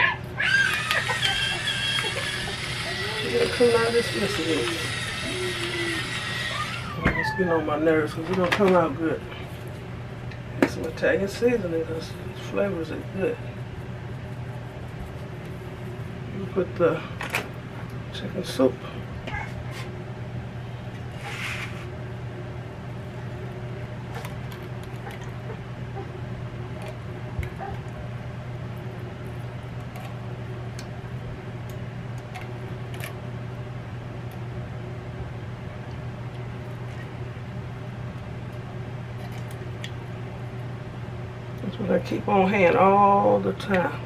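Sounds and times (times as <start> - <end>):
air fryer fan humming: 0.0 - 44.0.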